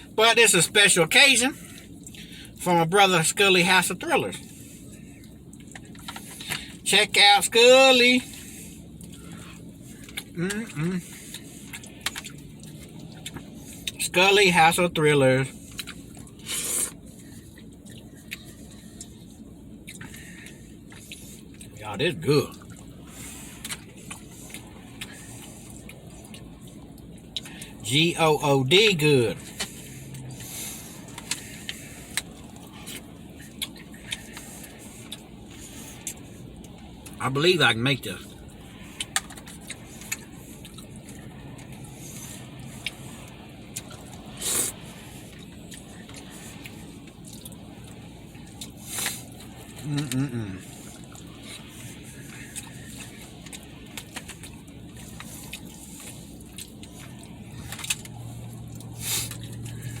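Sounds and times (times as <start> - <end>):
low hum: 0.0 - 60.0
low rumble inside truck cab: 0.0 - 60.0
steady low hum: 0.0 - 60.0
chewing clicks and smacks: 1.8 - 2.3, 5.1 - 6.7, 9.0 - 14.0, 15.7 - 21.7, 22.4 - 27.8, 29.4 - 37.2, 38.2 - 60.0.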